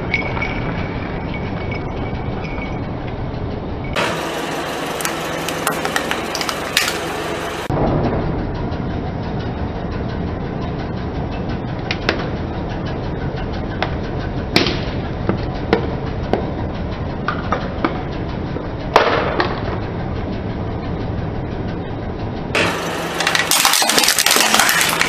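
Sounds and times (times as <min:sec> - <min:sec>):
low engine hum: 0:00.0 - 0:23.6.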